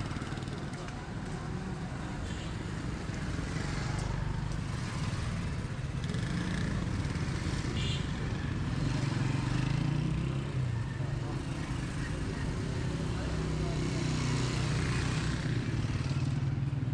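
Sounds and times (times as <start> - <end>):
motorcycle engines passing: 0.0 - 16.9.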